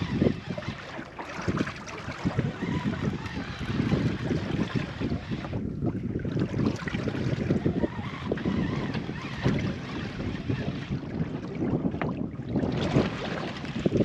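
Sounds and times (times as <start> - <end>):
gusty wind buffeting microphone: 0.0 - 14.0
water lapping against hull: 0.0 - 14.0.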